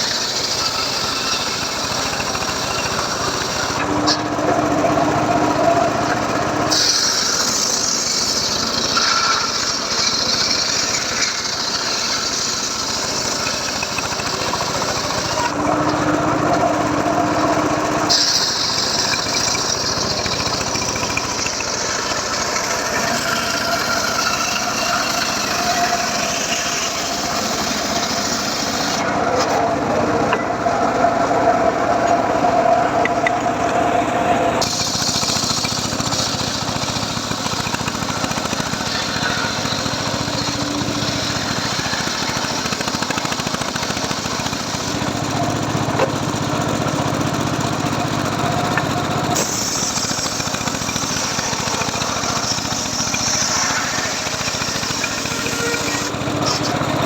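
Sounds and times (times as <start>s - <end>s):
circular saw cutting wood: 0.0s - 57.0s.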